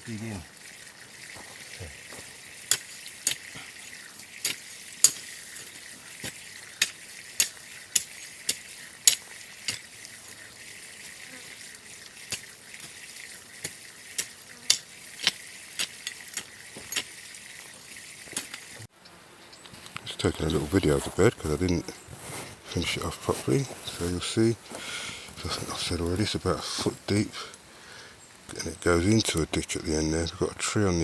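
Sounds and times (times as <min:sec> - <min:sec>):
soil being dug and mixed: 0:00.0 - 0:31.0
steady high hiss: 0:00.0 - 0:31.0.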